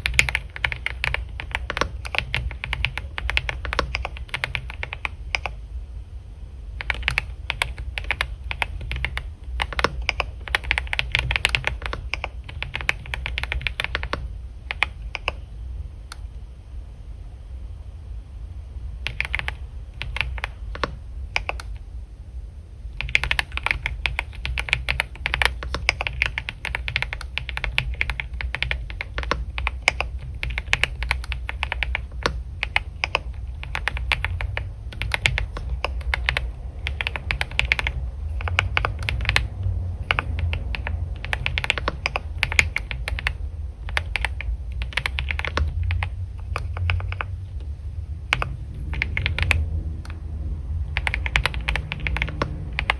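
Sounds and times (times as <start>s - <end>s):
typing on computer keyboard: 0.0s - 5.6s, 6.8s - 15.5s, 19.0s - 21.8s, 23.0s - 50.2s, 50.9s - 52.9s
low steady hum: 0.0s - 52.9s.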